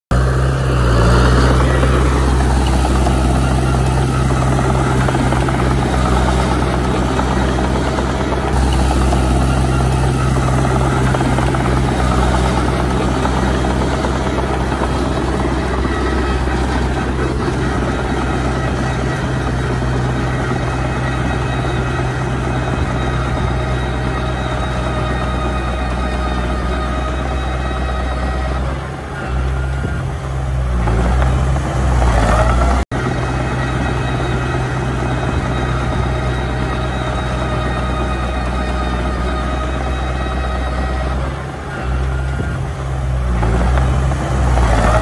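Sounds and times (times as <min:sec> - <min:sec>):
bulldozer diesel engine droning: 0:00.1 - 0:45.0.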